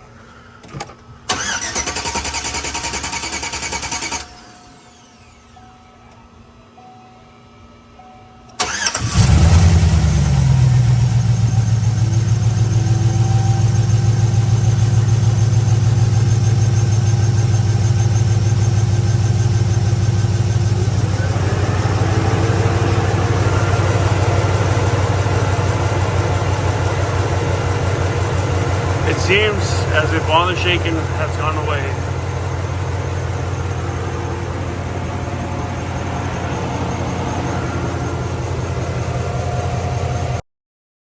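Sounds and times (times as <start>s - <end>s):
car engine starting and idling: 0.0s - 6.3s, 8.5s - 40.4s.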